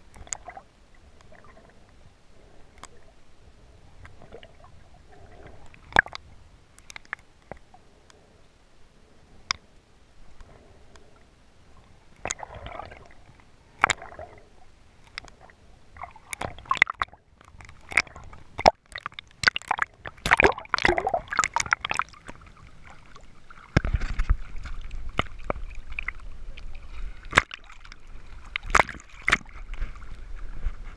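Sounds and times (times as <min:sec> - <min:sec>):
water sloshing and gurgling: 0:00.0 - 0:30.9.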